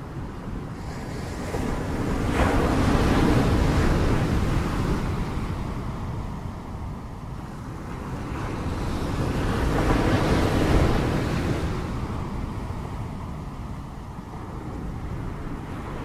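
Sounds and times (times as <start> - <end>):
wind rumble: 0.0 - 16.0.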